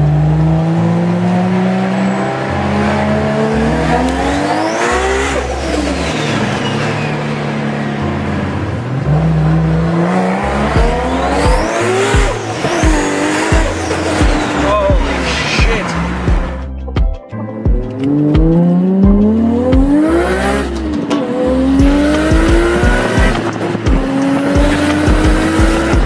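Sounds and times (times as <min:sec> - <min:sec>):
car engine accelerating: 0:00.0 - 0:17.0, 0:17.7 - 0:26.0.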